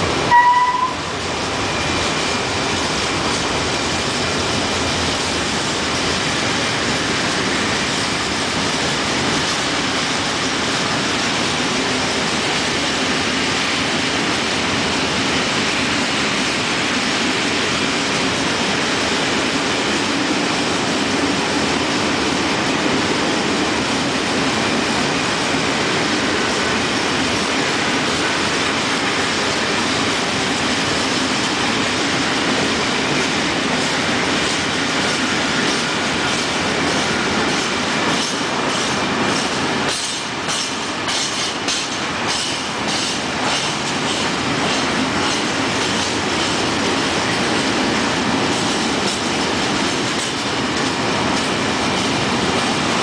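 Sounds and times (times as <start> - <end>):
train wheels rolling on rails: 0.0 - 53.0.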